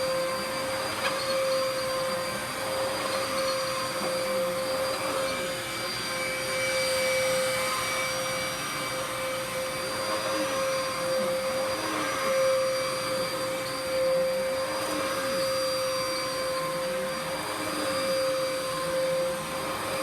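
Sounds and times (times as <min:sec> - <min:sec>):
upright vacuum cleaner running: 0:00.0 - 0:20.0.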